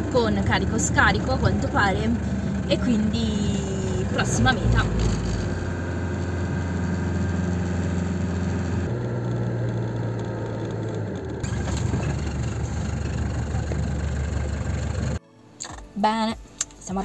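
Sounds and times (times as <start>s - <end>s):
road noise: 0.0s - 15.2s
van engine humming: 0.0s - 15.2s.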